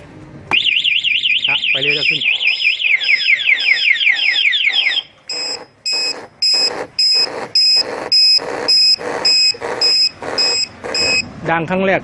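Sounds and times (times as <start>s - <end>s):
motorcycle alarm siren: 0.5s - 11.2s.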